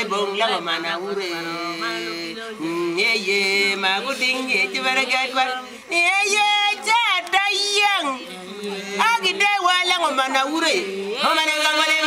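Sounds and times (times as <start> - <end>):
group of voices singing: 0.0 - 12.0
louder brighter voice singing: 0.0 - 12.0.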